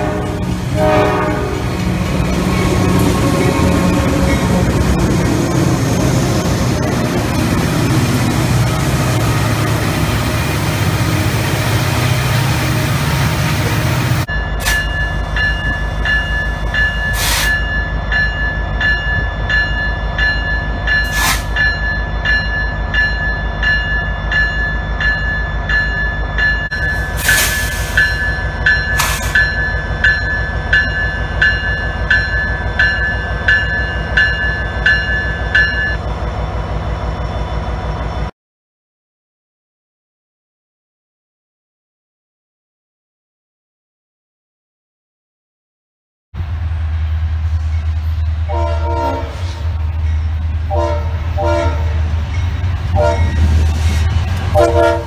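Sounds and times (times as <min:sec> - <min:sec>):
freight locomotive passing: 0:00.0 - 0:38.3, 0:46.4 - 0:55.0.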